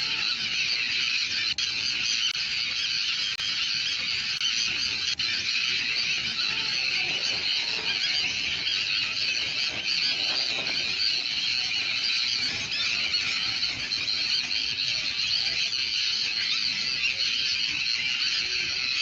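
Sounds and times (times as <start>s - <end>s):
chorus of birds calling: 0.0s - 19.0s.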